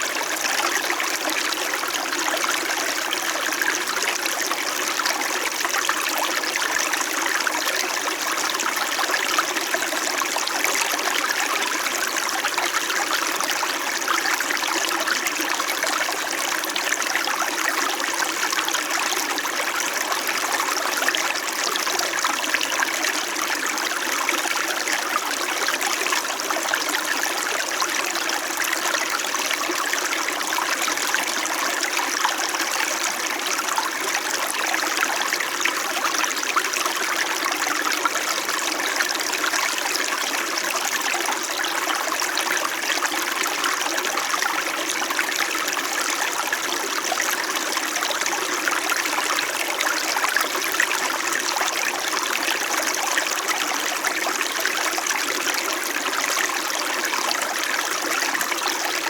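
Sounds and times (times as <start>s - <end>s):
stream trickling over stones: 0.1s - 59.0s.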